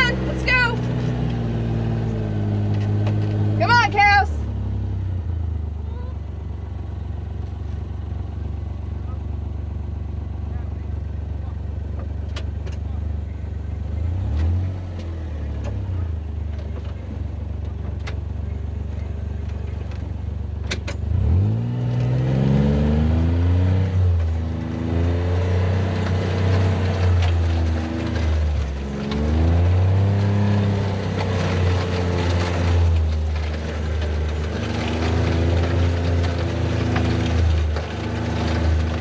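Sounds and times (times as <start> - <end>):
vehicle engine revving: 0.0 - 6.2, 7.6 - 39.0.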